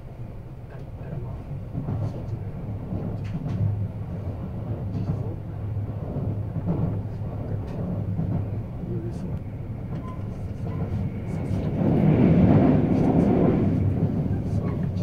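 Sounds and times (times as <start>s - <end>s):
train rumbling in motion: 0.0s - 15.0s.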